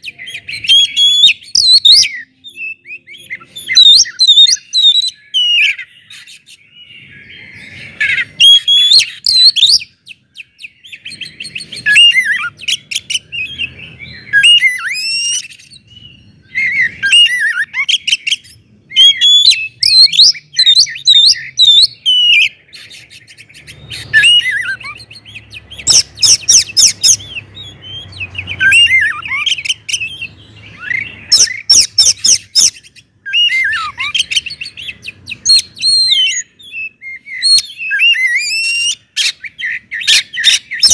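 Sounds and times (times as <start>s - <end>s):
bird whistling song: 0.0s - 40.9s.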